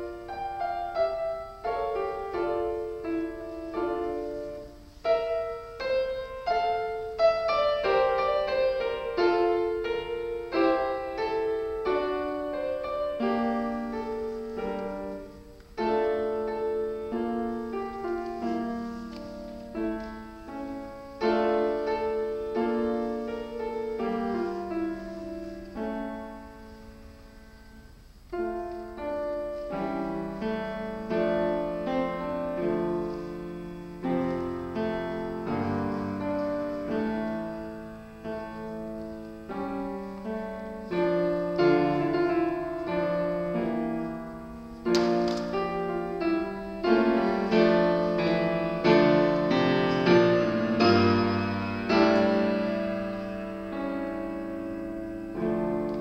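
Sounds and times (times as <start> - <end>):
piano playing: 0.0 - 56.0.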